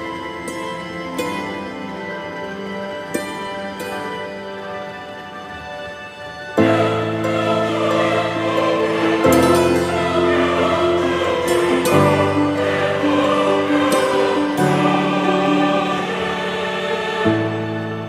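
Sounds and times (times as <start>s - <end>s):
background music with sustained chords: 0.0s - 18.0s.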